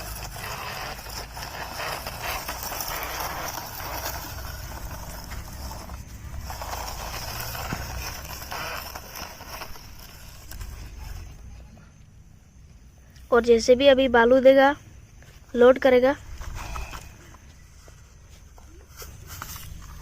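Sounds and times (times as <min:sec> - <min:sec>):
toy truck scraping across sand: 0:00.0 - 0:11.7, 0:15.4 - 0:20.0.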